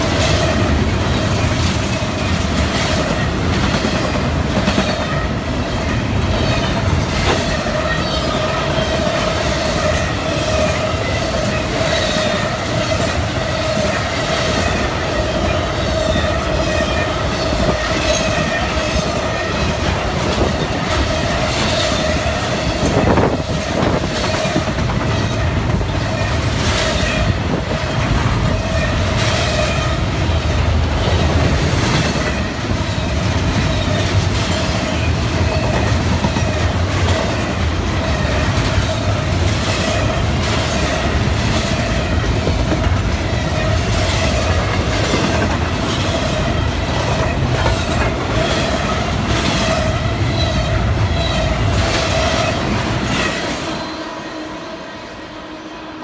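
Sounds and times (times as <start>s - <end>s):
freight train wheels clacking: 0.0s - 54.3s.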